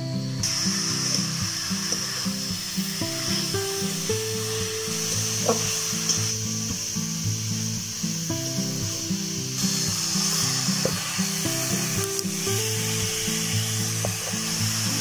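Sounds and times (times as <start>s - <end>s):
instrumental background music: 0.0s - 15.0s
sizzling hiss: 0.0s - 15.0s.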